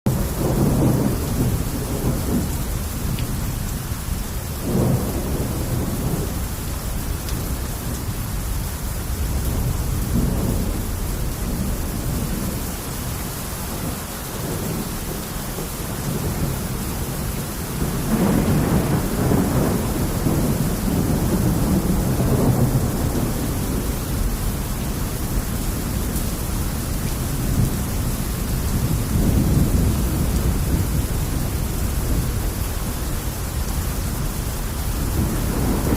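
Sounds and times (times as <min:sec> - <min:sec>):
rolling thunder: 0:00.1 - 0:13.0, 0:13.6 - 0:35.9
steady rain: 0:00.1 - 0:35.9.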